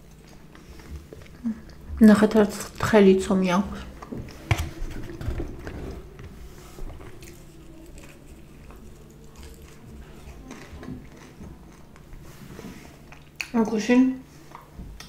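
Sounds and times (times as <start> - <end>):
person chewing pizza: 0.0 - 2.9, 3.7 - 13.6, 14.3 - 15.0.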